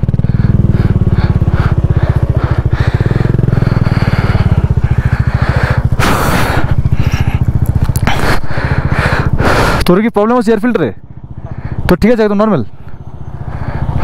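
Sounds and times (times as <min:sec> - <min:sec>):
motorcycle engine low revs: 0:00.0 - 0:14.0.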